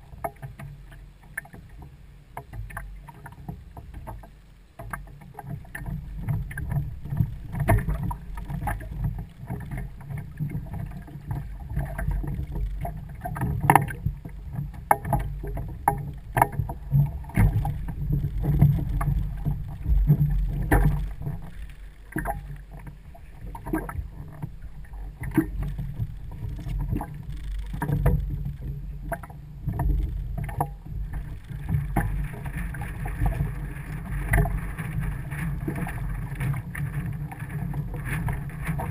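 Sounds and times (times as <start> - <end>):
water rumbling against hull: 0.0 - 38.9.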